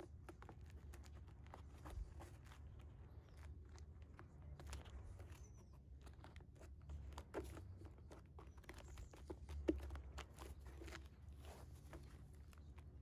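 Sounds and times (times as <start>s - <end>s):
stiff fabric crinkling: 0.0s - 13.0s.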